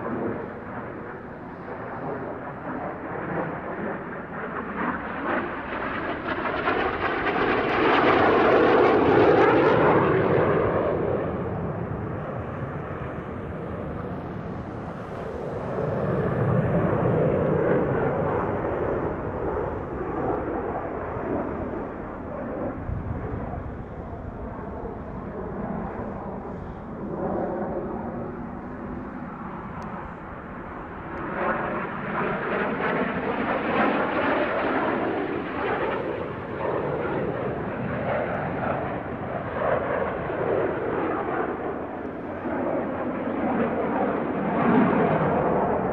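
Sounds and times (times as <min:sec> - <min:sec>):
jet flying overhead: 0:00.0 - 0:45.9.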